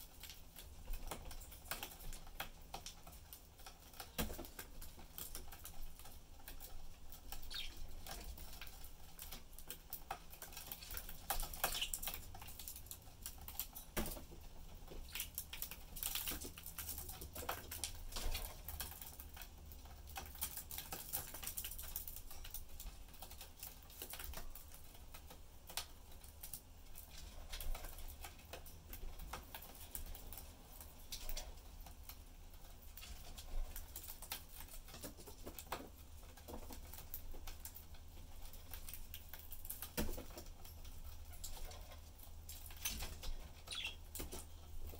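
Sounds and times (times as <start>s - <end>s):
birds pecking and tapping in cage: 0.0s - 44.9s.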